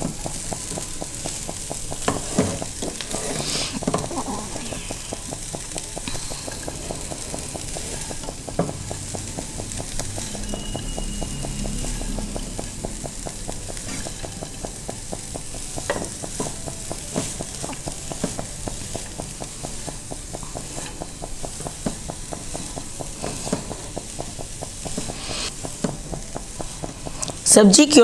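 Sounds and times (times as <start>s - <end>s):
spatula scraping and tapping pan: 0.0s - 27.4s
light sizzle: 0.0s - 28.0s.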